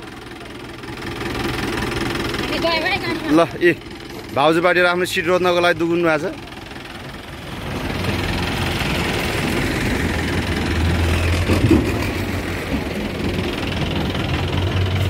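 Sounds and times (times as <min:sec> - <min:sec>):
jeep engine idling: 0:00.0 - 0:15.0.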